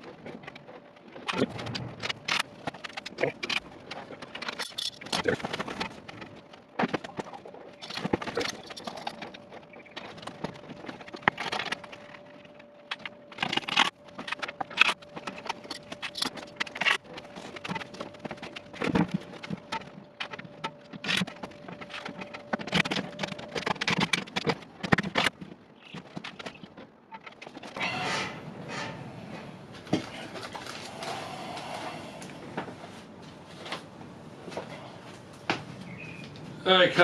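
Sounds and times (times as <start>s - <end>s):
panels knocking and clattering: 0.0s - 30.8s
faint steady hum: 0.0s - 37.0s.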